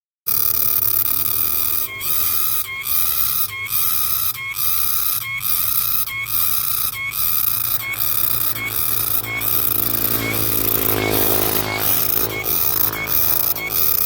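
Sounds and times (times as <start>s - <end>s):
cicada buzzing: 0.3s - 14.0s.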